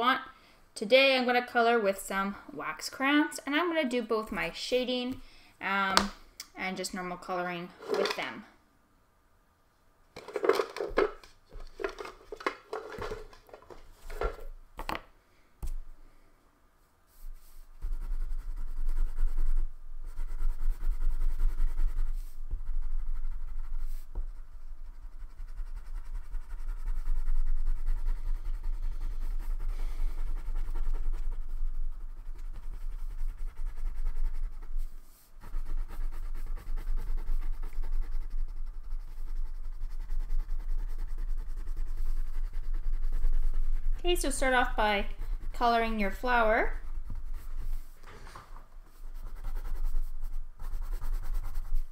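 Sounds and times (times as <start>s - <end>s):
crayon scratching on paper: 2.6s - 6.1s, 10.2s - 14.5s, 17.1s - 51.9s.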